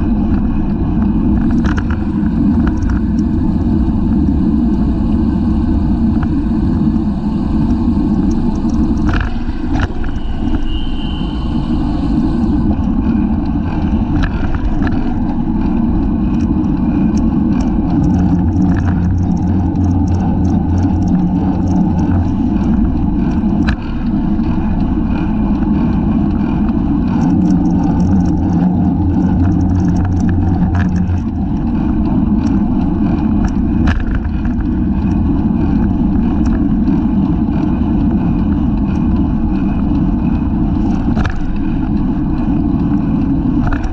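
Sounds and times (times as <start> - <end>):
bike clicks and rattles: 0.0 - 43.9
wind rumble on microphone: 0.0 - 43.9.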